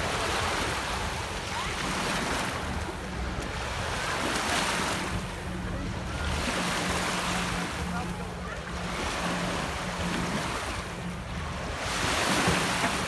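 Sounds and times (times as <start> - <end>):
lake water splashing: 0.0 - 13.0.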